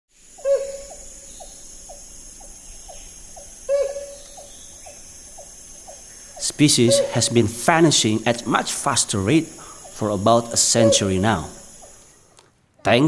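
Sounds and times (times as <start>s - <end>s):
steady high hiss: 0.1s - 13.0s
hornbill calling: 0.2s - 12.4s.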